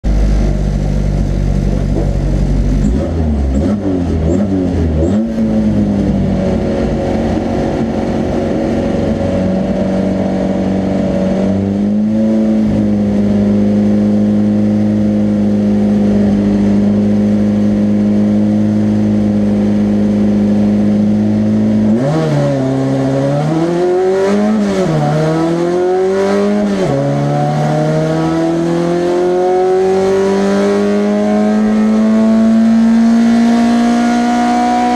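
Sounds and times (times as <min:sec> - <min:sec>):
racing car engine at high revs: 0:00.0 - 0:34.9.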